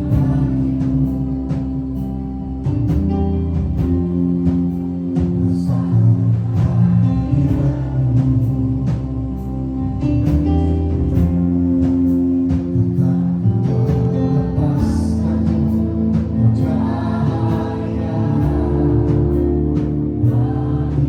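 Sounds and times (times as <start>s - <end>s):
band playing worship song: 0.0s - 21.0s.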